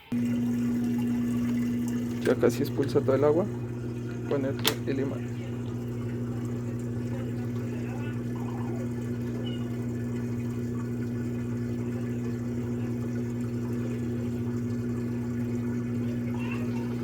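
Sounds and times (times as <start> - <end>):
washing machine drain pump humming: 0.0 - 17.0.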